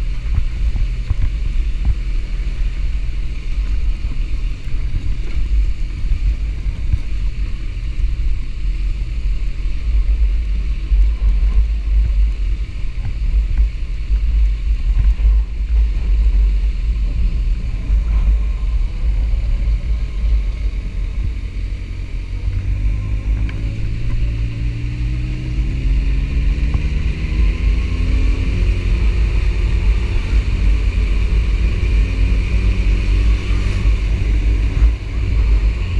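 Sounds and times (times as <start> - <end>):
motorcycle engine rumbling: 0.0 - 35.9.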